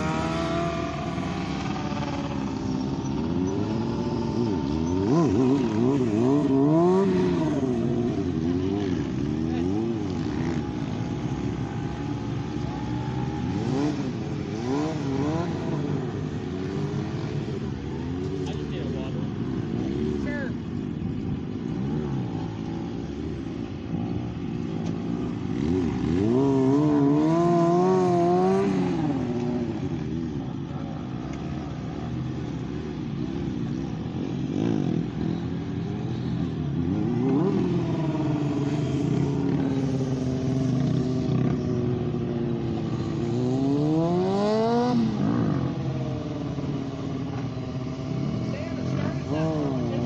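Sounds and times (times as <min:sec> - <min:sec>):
motorcycle engines revving: 0:00.0 - 0:50.0.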